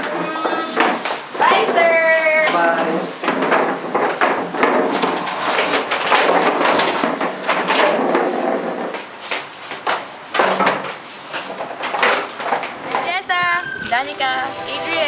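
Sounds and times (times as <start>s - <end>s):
plastic chair being moved: 0.0s - 13.1s
people moving about with clatter: 0.0s - 15.0s.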